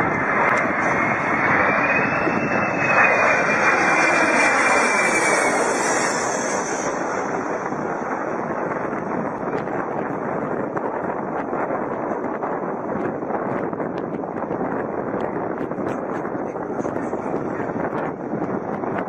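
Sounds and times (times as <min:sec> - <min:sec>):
aircraft engine rush and whine: 0:00.0 - 0:19.0.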